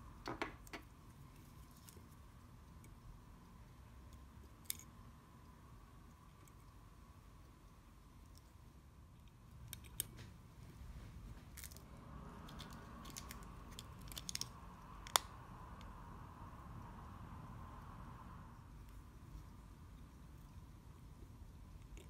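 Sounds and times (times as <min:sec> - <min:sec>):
low steady background rumble: 0:00.0 - 0:22.0.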